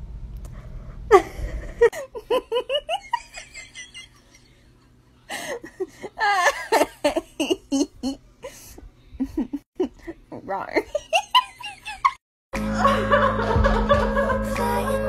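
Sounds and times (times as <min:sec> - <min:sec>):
person giggling: 0:01.1 - 0:04.6, 0:05.3 - 0:10.2, 0:10.9 - 0:14.7.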